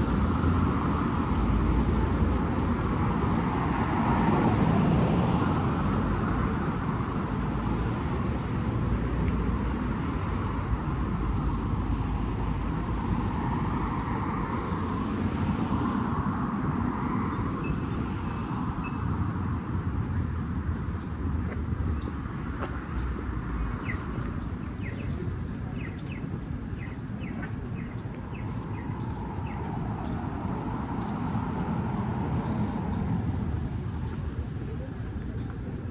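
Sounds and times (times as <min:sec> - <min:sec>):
cars passing: 0:00.0 - 0:35.9.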